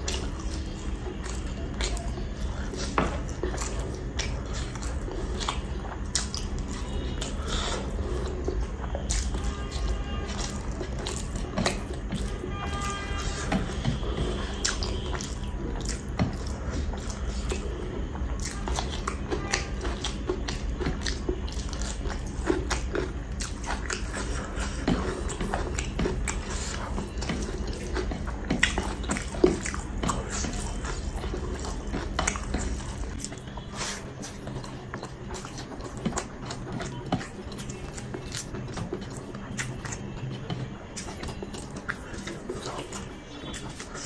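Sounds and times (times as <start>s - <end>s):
chewing and lip-smacking: 0.0s - 44.0s.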